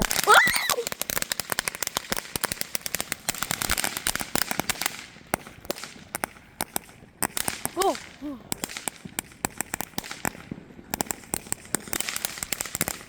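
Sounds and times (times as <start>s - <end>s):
firework crackling pops: 0.0s - 13.0s.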